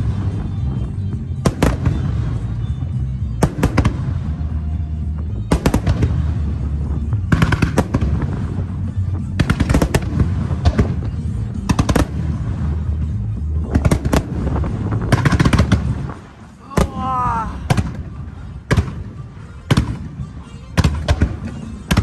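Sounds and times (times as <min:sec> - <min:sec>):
fireworks low booming: 0:00.0 - 0:22.0
fireworks sharp crackling: 0:00.0 - 0:22.0.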